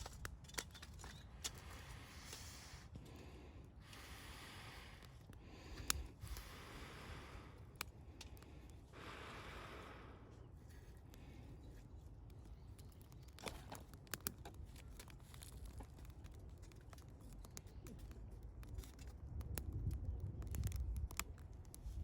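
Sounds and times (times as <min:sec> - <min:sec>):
fire crackling and popping: 0:00.0 - 0:22.0
campfire flames hissing: 0:01.4 - 0:22.0.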